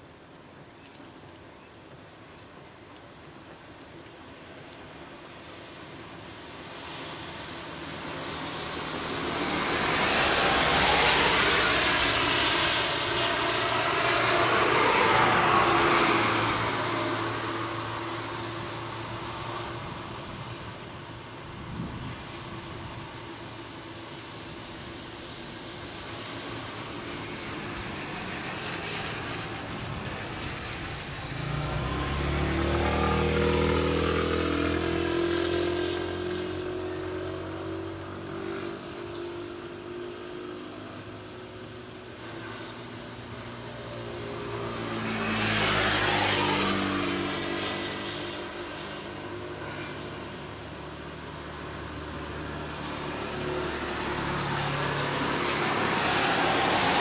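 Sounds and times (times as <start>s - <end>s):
vehicles passing by: 0.0s - 57.0s.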